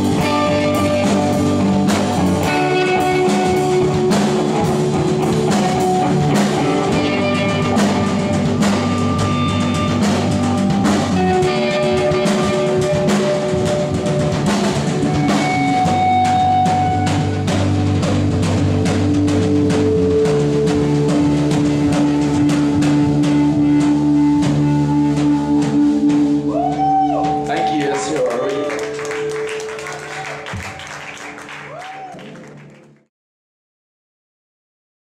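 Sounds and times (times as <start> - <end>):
sustained guitar notes: 0.0 - 30.7
drum kit beat: 0.0 - 32.7.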